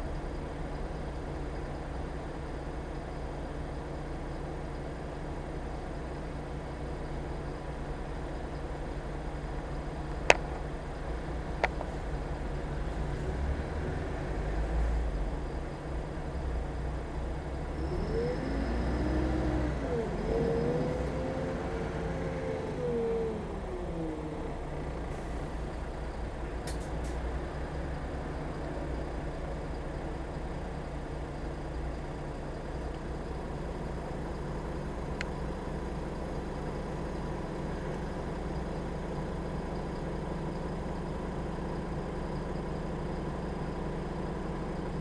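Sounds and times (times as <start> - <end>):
bus engine and transmission whine: 0.0 - 45.0
low rumble of the ride: 0.0 - 45.0
road noise: 0.0 - 45.0.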